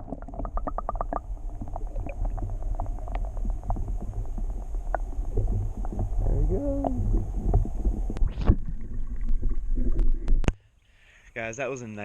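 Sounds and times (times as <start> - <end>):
muffled underwater rumble: 0.0 - 10.6
underwater clicks and ticks: 0.0 - 10.6.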